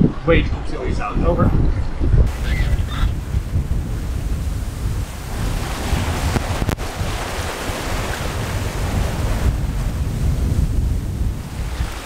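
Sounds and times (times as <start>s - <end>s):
wind on microphone: 0.0s - 12.0s
sea water rushing along hull: 2.3s - 12.0s.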